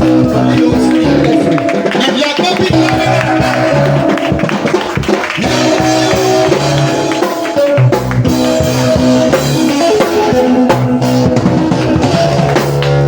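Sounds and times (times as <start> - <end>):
bass notes: 0.0 - 13.0
drum kit beat: 0.0 - 13.0
guitar: 0.0 - 13.0.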